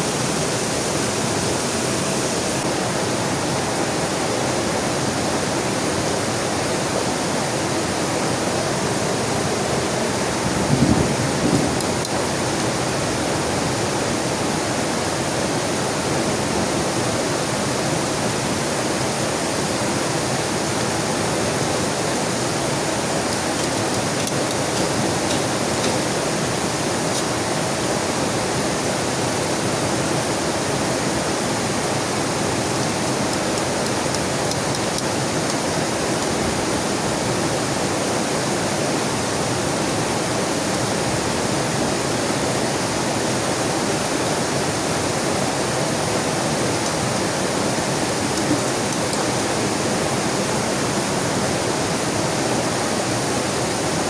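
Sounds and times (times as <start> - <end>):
heavy rain: 0.0 - 54.0
rushing river: 0.0 - 54.0.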